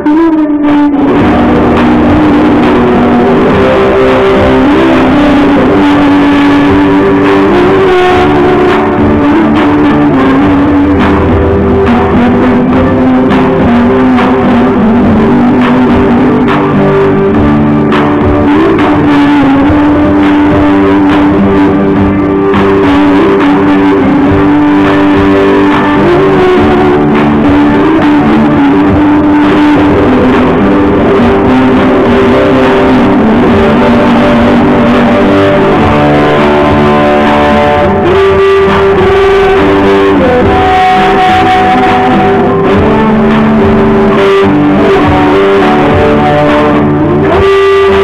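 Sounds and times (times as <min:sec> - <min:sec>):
backing track: 0:00.0 - 0:48.0
electric guitar: 0:00.0 - 0:48.0
woman singing into a microphone: 0:00.0 - 0:48.0.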